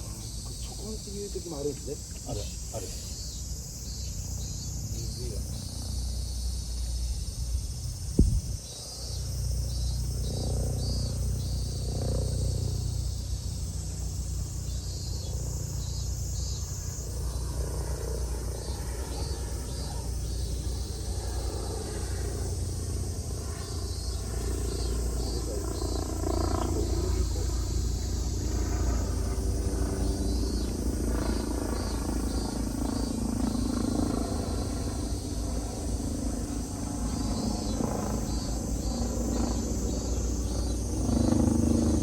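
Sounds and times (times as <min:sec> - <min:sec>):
high-pitched insect buzzing: 0:00.0 - 0:42.0
pulsing insect chirps: 0:00.0 - 0:42.0.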